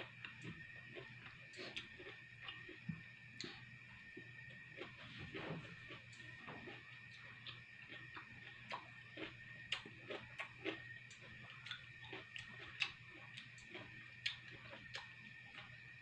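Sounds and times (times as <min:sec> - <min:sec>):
faint low hum: 0:00.0 - 0:16.0
person chewing food: 0:00.0 - 0:16.0.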